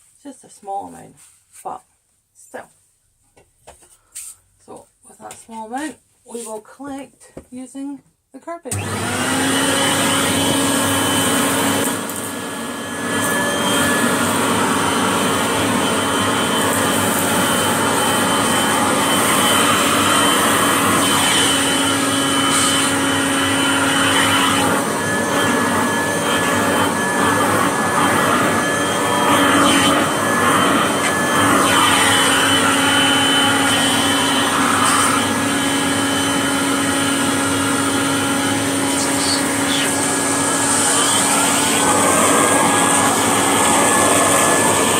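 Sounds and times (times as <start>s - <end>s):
vacuum cleaner running: 8.7s - 44.9s.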